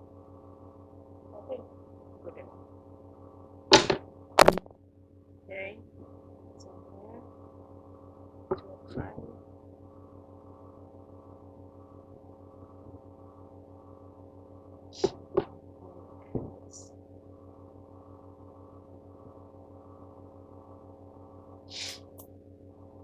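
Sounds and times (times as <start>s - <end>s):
pulsing electrical hum: 0.0s - 23.0s.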